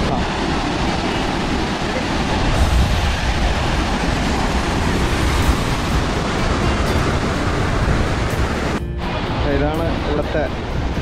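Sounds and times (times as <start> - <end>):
waterfall crashing into pool: 0.0 - 11.0.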